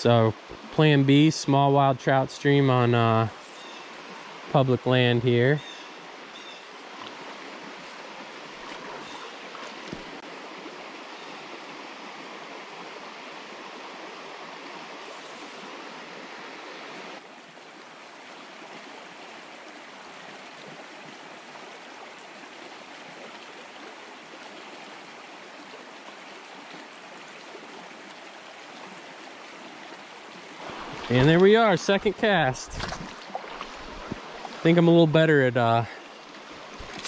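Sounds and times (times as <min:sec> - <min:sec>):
stream running over stones: 0:00.0 - 0:37.0.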